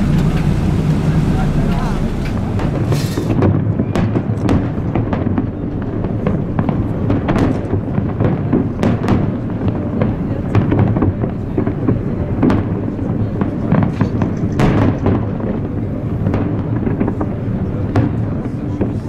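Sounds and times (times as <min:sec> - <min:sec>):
fireworks bangs and crackles: 0:00.0 - 0:19.0
low rumble: 0:00.0 - 0:19.0.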